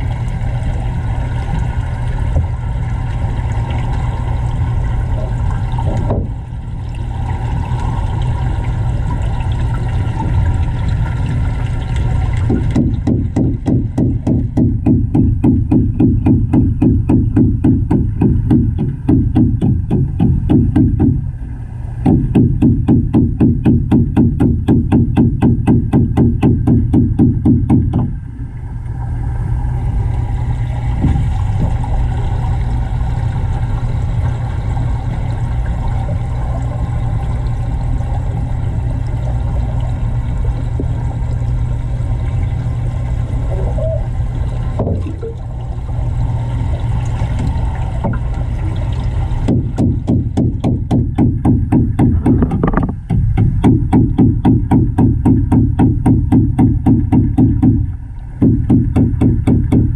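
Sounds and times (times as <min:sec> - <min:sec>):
low hum: 0:00.0 - 0:59.9
water and air bubbles rushing: 0:00.0 - 0:59.9.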